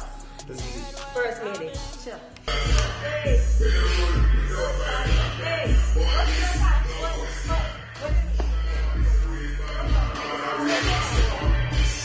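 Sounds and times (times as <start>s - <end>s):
hip hop beat with heavy bass: 0.0s - 12.0s.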